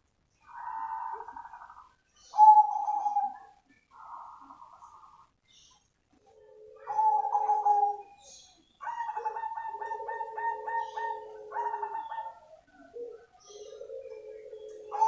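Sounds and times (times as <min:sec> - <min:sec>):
dove cooing: 0:00.4 - 0:05.3, 0:06.1 - 0:15.0.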